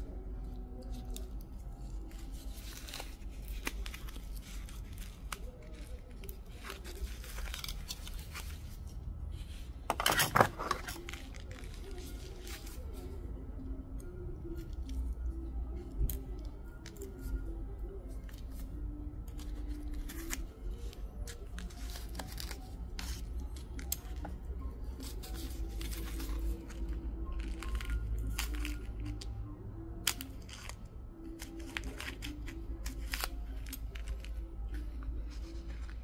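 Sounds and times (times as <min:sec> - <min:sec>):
background music: 0:00.0 - 0:36.0.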